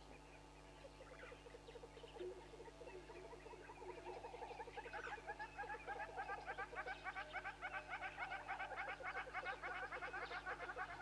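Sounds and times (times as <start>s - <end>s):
birds chattering: 0.0s - 11.0s.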